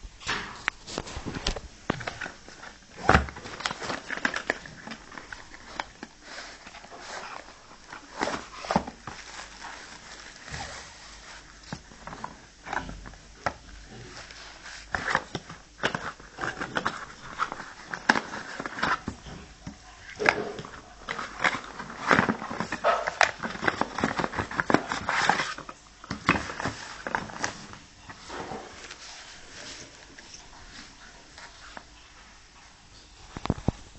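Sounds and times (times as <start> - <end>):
packaging rustling: 0.7 - 32.6.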